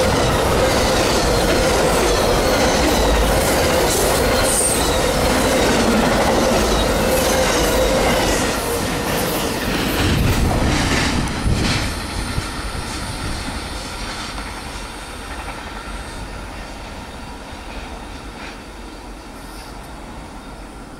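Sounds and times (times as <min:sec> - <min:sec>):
train wheels clattering on rails: 0:00.0 - 0:20.8.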